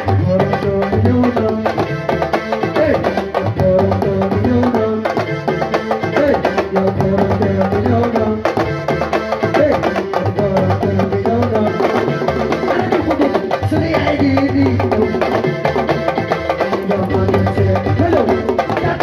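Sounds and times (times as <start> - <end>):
fast steady drumming: 0.0 - 19.0.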